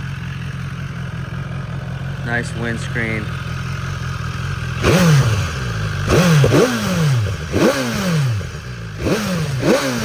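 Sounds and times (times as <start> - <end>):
motorcycle engine idling: 0.0 - 10.0
motorcycle engine revving: 0.0 - 10.0.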